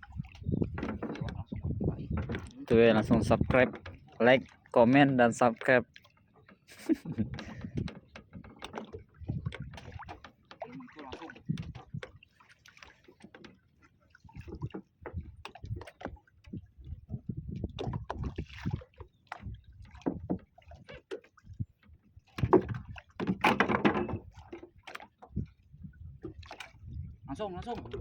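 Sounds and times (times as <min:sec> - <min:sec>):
knocks and clatter on boat: 0:00.0 - 0:28.0
water sloshing against hull: 0:00.0 - 0:28.0.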